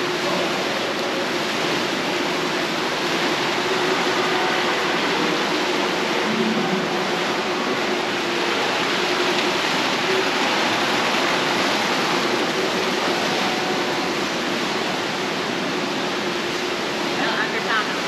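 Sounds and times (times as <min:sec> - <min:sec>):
fountain splashing into pool: 0:00.0 - 0:18.0.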